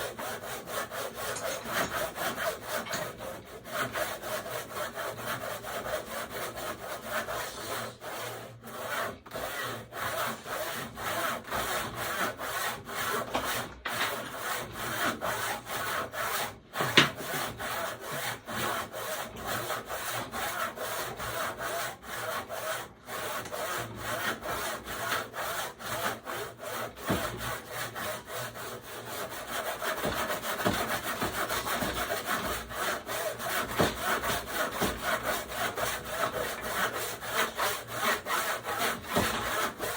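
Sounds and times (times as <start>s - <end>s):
handsaw cutting wood: 0.0s - 39.9s.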